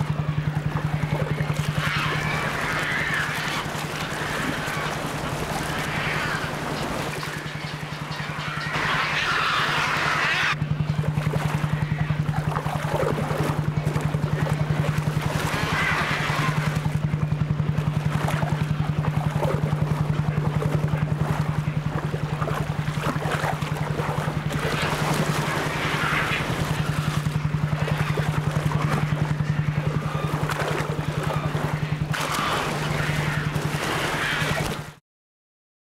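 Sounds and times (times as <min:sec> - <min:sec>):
boat engine throbbing: 0:00.0 - 0:35.0
water splashing and churning: 0:00.0 - 0:35.0.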